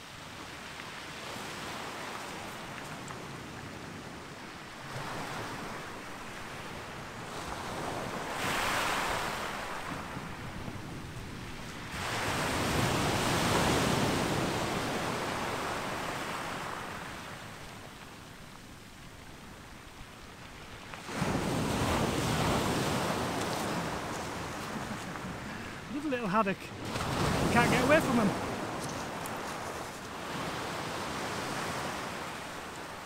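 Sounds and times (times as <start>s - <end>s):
small waves breaking on beach: 0.0s - 33.0s.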